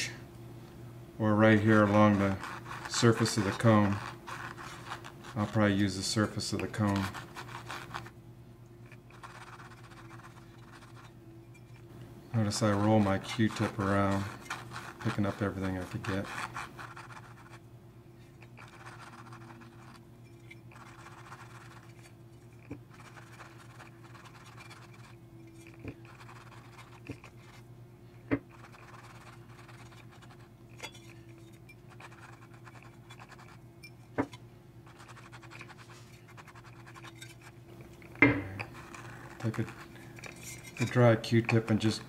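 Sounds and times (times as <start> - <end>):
faint steady hum: 0.0 - 42.0
cotton swab scratching speaker cone: 1.6 - 8.1, 8.9 - 11.2, 12.4 - 17.6, 18.2 - 27.7, 28.4 - 33.6, 34.3 - 40.8.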